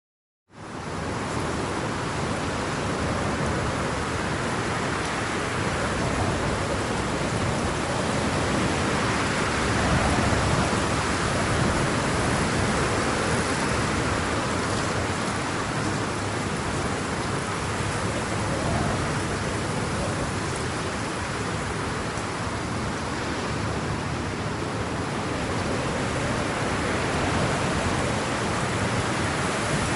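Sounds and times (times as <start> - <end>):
heavy rain with wind: 0.5 - 29.9.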